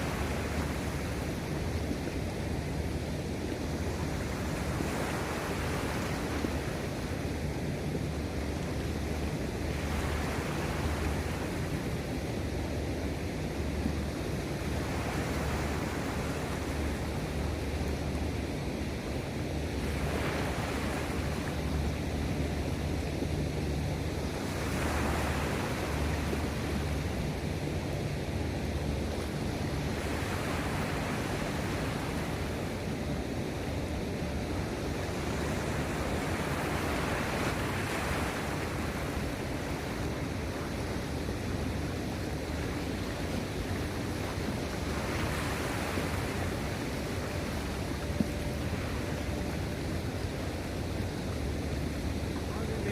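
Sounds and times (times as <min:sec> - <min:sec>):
sea waves washing ashore: 0:00.0 - 0:52.9
wind rumble on microphone: 0:00.0 - 0:52.9.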